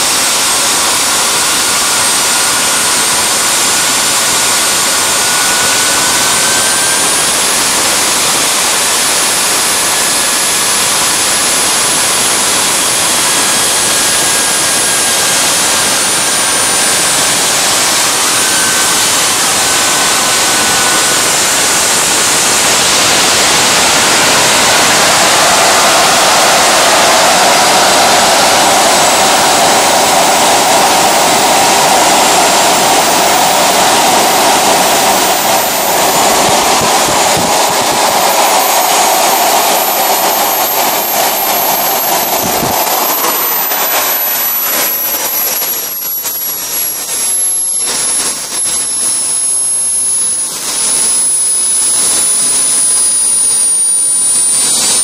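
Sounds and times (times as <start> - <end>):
high whistling whines: 0.0 - 55.0
jet engine rushing: 0.0 - 55.0.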